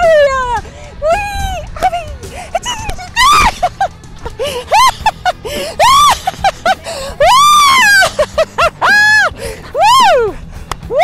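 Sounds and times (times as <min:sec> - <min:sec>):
woman squealing with laughter: 0:01.0 - 0:11.0.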